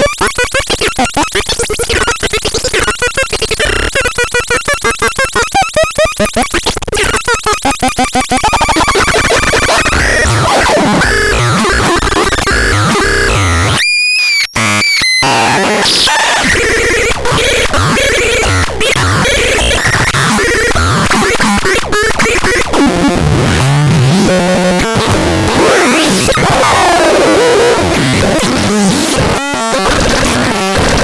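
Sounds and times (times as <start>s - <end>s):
harsh distorted noise music: 0.0s - 31.0s.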